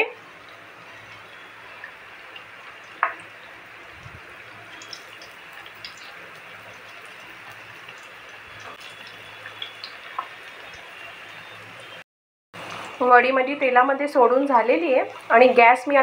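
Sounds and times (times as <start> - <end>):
food deep-frying in oil: 0.0 - 12.0, 12.6 - 16.0.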